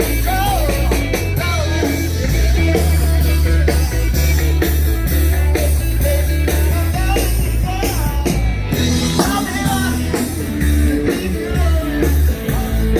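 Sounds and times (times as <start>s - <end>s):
person singing: 0.0s - 12.9s
rock and roll band playing: 0.0s - 12.9s
steady drum beat: 0.0s - 12.9s.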